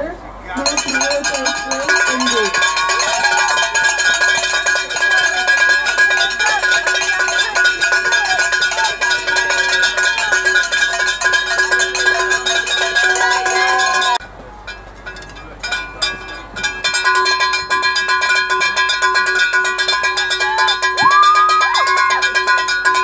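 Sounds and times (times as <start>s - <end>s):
cowbells shaken fast: 0.6s - 23.0s.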